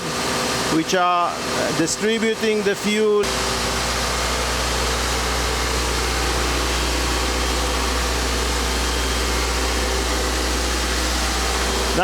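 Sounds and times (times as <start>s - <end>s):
deep machinery hum: 0.0s - 12.0s.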